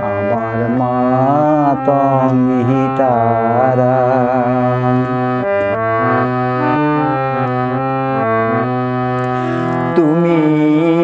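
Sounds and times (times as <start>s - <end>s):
organ-like keyboard melody: 0.0s - 11.0s.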